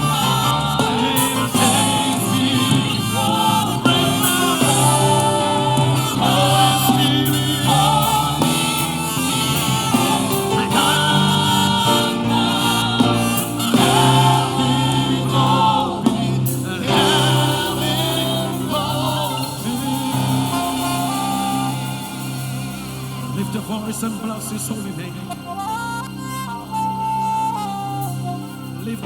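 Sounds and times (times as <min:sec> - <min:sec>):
band accompaniment with bass: 0:00.0 - 0:29.0
congregation singing: 0:00.0 - 0:29.0.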